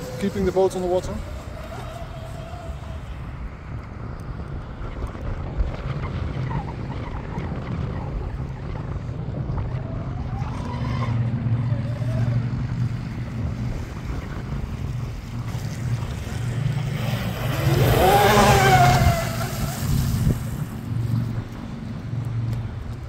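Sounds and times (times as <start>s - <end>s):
rc speedboat motor whine: 0.0s - 4.8s, 6.2s - 23.0s.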